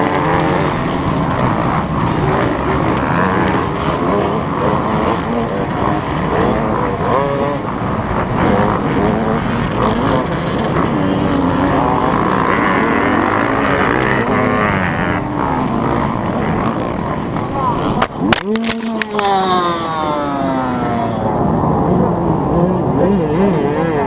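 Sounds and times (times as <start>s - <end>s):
motocross bike engine revving: 0.0s - 24.0s
other dirt bike engines: 0.0s - 24.0s.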